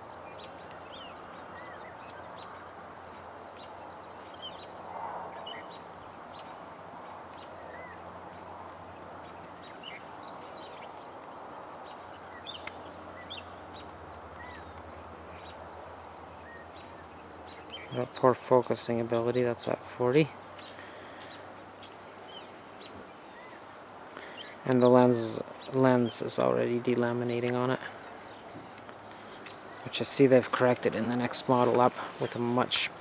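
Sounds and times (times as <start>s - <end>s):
insects trilling: 0.0s - 33.0s
steady outdoor hiss: 0.0s - 33.0s.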